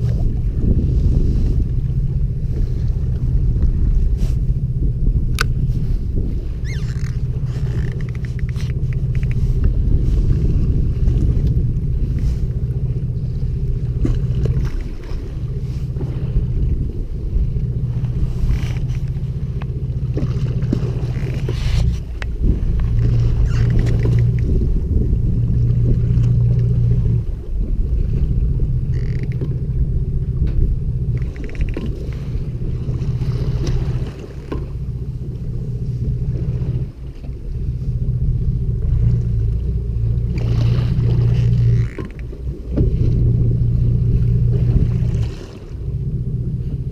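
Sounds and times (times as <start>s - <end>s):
boat engine humming: 0.0s - 46.9s
wind rumbling on microphone: 0.0s - 46.9s.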